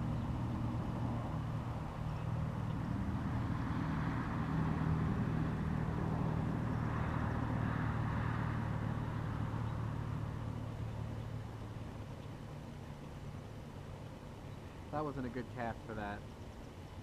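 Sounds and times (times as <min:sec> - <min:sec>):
vehicle engine drone: 0:00.0 - 0:17.0.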